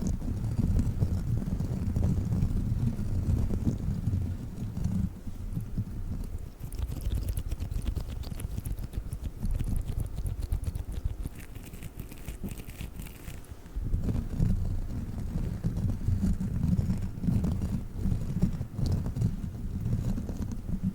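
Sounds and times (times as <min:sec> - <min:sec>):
low muffled rumble: 0:00.0 - 0:11.6, 0:12.4 - 0:20.9
sticky toy crackling and clicking: 0:00.0 - 0:13.4, 0:14.0 - 0:20.6.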